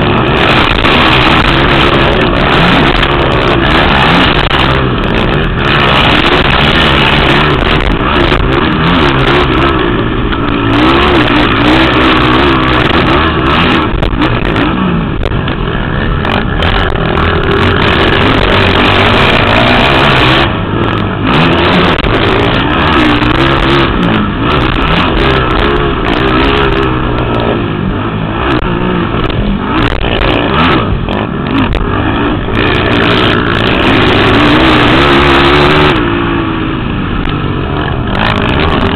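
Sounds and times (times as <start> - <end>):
racing quad engines revving: 0.0 - 38.9.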